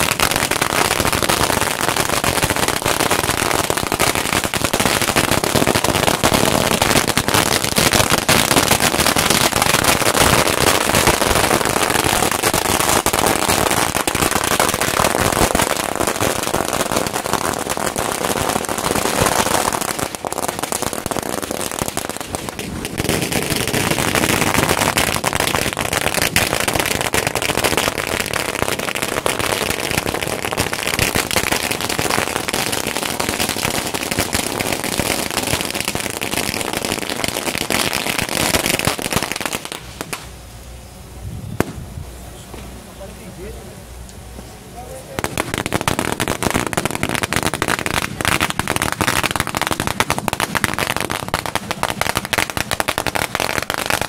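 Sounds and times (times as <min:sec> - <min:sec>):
firecrackers banging rapidly: 0:00.0 - 0:40.3, 0:45.1 - 0:54.0
firecracker crackle: 0:00.0 - 0:40.9, 0:41.5 - 0:54.0.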